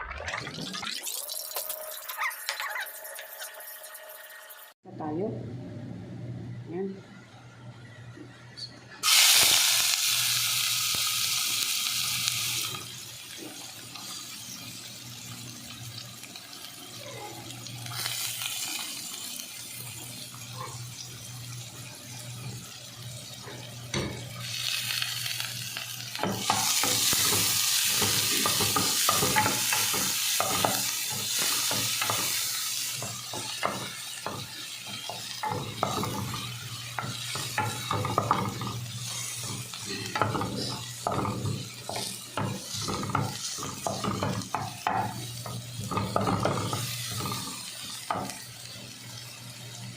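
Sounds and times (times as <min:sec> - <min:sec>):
food sizzling in hot oil: 0:01.0 - 0:04.8, 0:09.0 - 0:49.9.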